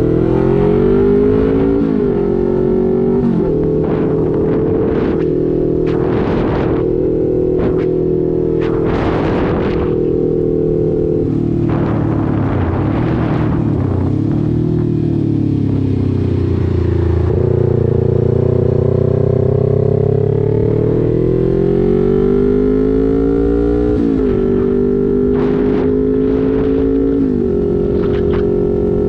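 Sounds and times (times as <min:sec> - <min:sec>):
wind noise: 0:00.0 - 0:19.6, 0:20.7 - 0:29.0
motorcycle engine accelerating: 0:00.0 - 0:29.0.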